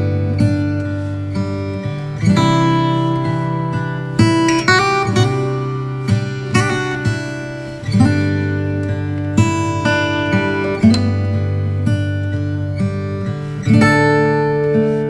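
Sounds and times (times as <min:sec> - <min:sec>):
plucked string chords: 0:00.0 - 0:15.0.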